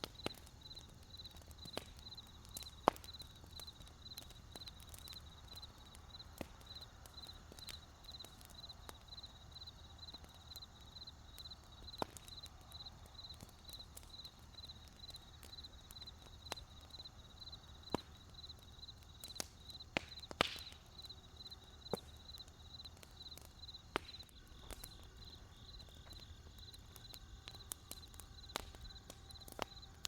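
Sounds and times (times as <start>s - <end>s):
campfire crackling and popping: 0.0s - 30.0s
crickets chirping: 0.1s - 30.0s.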